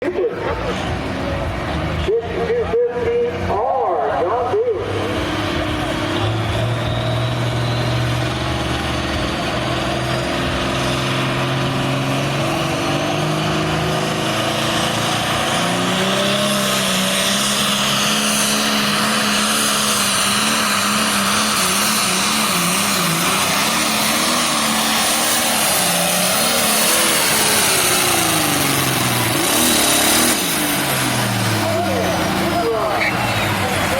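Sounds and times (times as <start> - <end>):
tractor engine at full throttle: 0.0 - 33.9.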